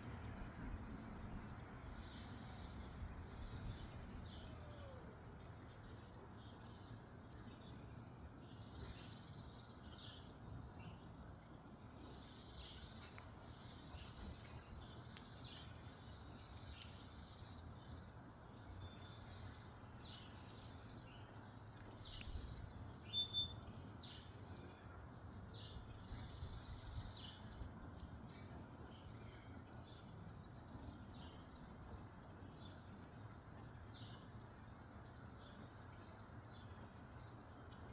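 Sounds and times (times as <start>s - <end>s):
small birds chirping: 1.4s - 34.7s.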